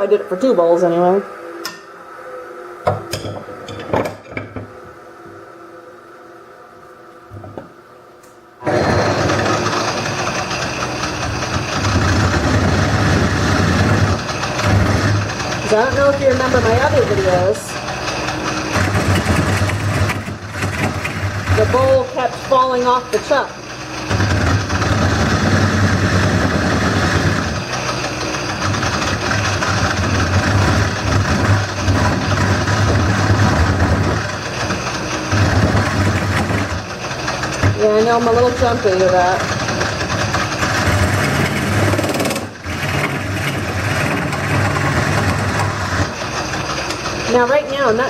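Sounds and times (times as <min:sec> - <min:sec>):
gouge cutting spinning wood: 0:08.6 - 0:48.0
wood lathe running: 0:08.6 - 0:48.0.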